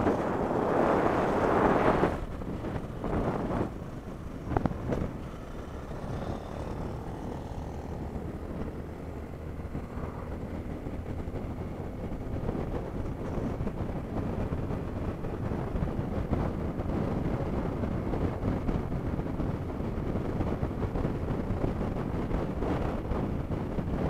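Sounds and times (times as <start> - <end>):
motorcycle engine drone: 0.0 - 24.0
wind rushing over microphone: 0.0 - 24.0.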